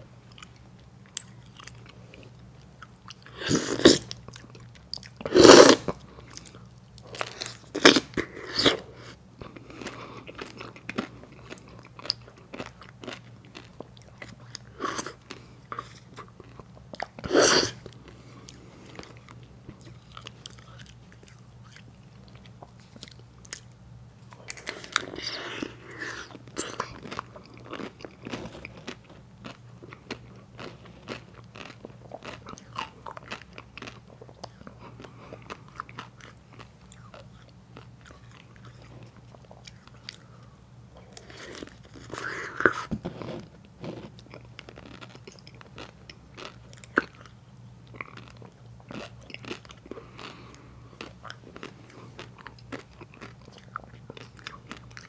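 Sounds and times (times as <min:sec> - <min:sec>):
wet chewing: 0:00.3 - 0:42.9, 0:43.8 - 0:55.0.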